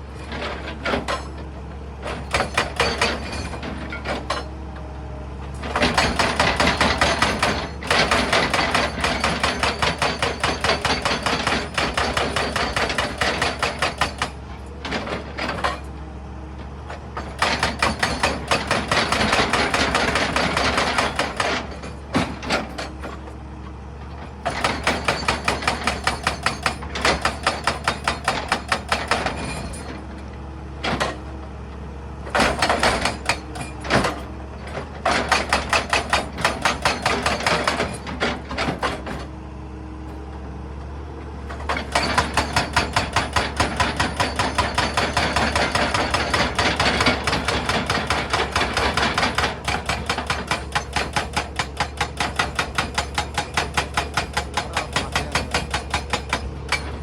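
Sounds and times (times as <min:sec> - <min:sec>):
hydraulic breaker hammering rock: 0:02.0 - 0:04.6, 0:05.6 - 0:15.9, 0:16.9 - 0:23.3, 0:24.3 - 0:30.0, 0:32.2 - 0:39.3, 0:41.5 - 0:57.0.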